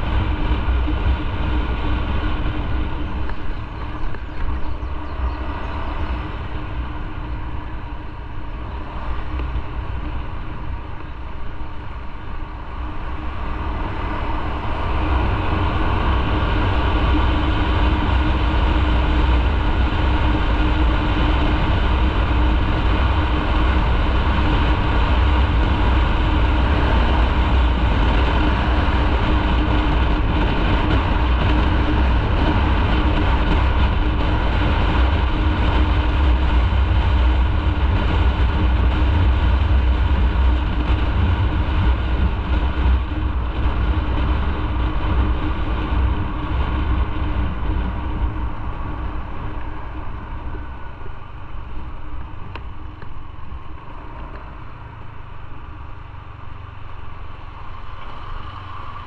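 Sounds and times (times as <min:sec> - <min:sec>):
motorcycle engine rumble: 0:00.0 - 0:59.0.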